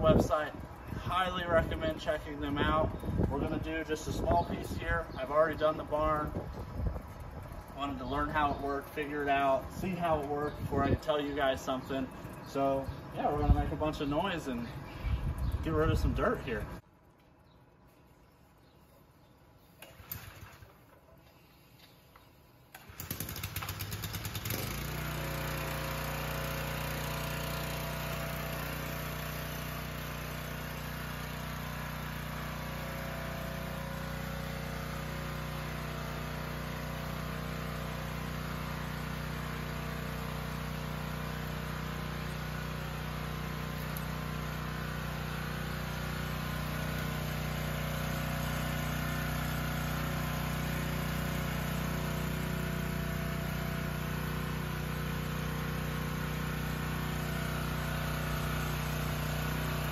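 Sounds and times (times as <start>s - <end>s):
pressure washer engine: 0.0s - 16.9s, 19.5s - 59.9s.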